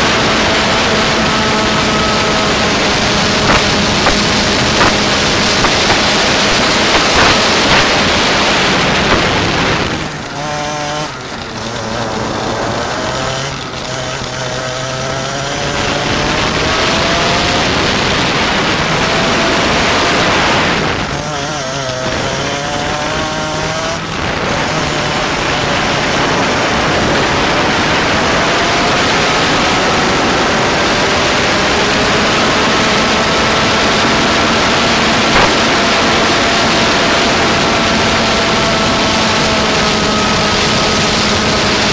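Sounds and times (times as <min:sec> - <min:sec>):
go-kart engine: 0:00.0 - 0:41.9
loud rushing noise: 0:00.0 - 0:41.9.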